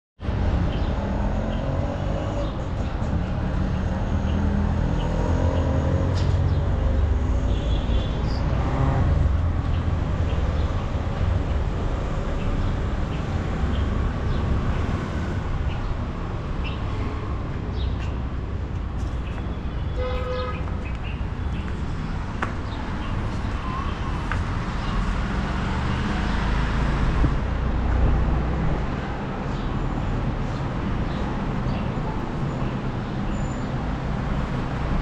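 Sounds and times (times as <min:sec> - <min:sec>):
street traffic rumble: 0:00.2 - 0:35.0.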